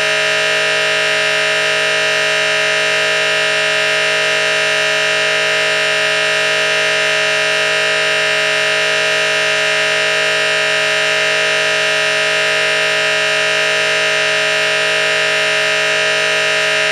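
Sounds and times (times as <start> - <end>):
loud steady buzzing tone: 0.0 - 16.9.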